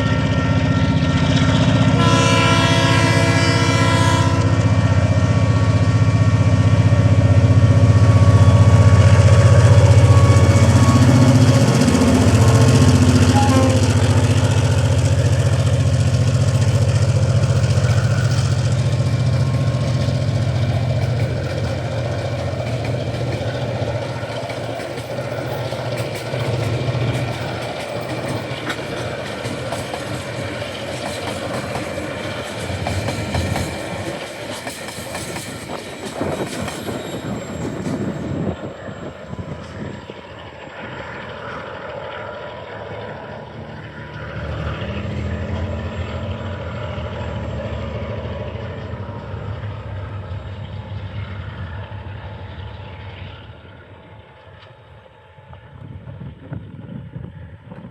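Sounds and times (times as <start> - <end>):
diesel locomotive drone: 0.0 - 57.9
train wheels clattering on rails: 0.0 - 57.9.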